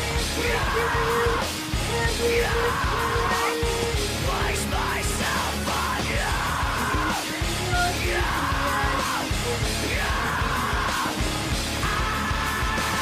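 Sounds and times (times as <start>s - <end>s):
person yelling vocals: 0.0s - 11.2s
heavy rock music: 0.0s - 13.0s.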